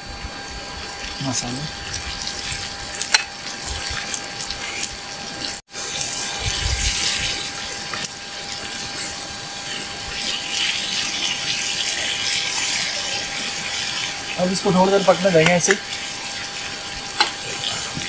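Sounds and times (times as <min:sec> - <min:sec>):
curry sizzling in a skillet: 0:00.1 - 0:18.0
spatula stirring and scraping: 0:00.8 - 0:18.0.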